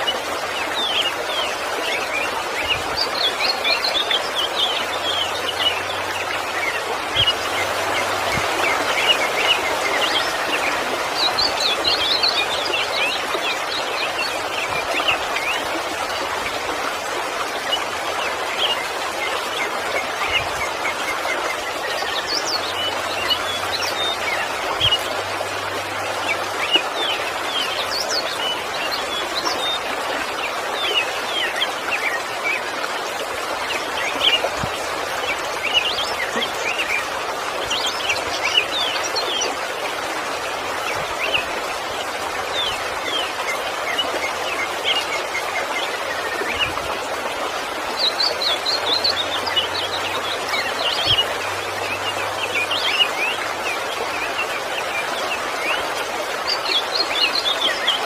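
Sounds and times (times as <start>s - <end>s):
birds chirping: 0.0s - 58.0s
waterfall rushing: 0.0s - 58.0s.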